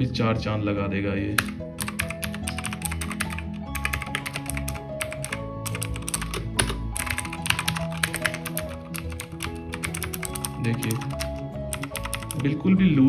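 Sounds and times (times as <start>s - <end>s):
background music: 0.0s - 13.0s
mechanical keyboard typing: 1.4s - 12.5s.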